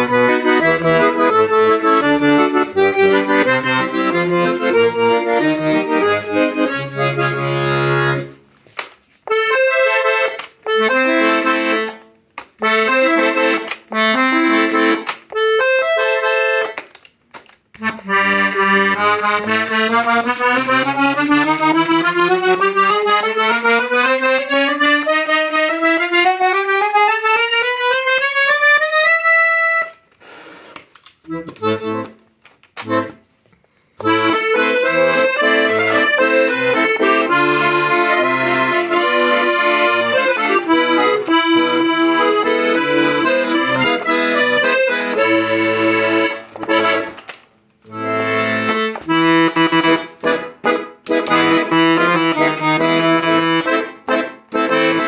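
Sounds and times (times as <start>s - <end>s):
piano accordion playing: 0.0s - 17.0s, 17.8s - 33.3s, 33.9s - 55.0s.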